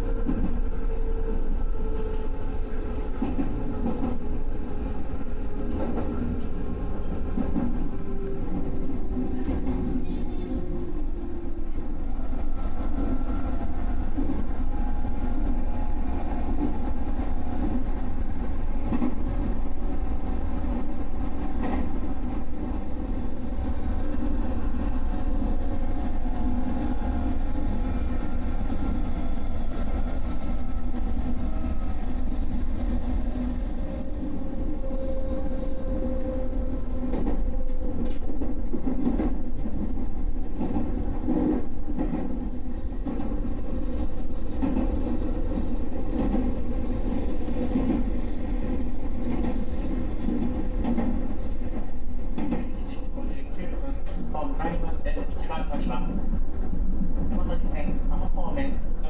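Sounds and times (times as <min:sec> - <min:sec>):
train rumble on track: 0:00.0 - 0:59.0.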